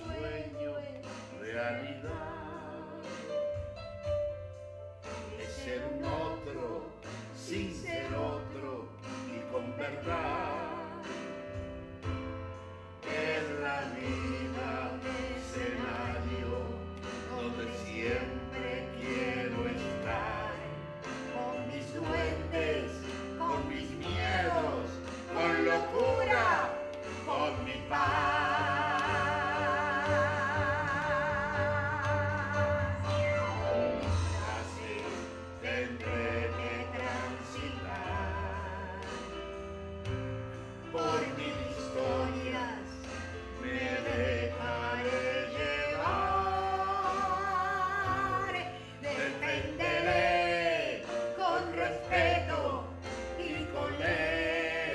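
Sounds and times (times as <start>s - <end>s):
man and woman singing: 0.0s - 3.6s, 5.2s - 11.6s, 13.0s - 39.6s, 40.8s - 54.9s
instrumental backing with bass: 0.0s - 54.9s.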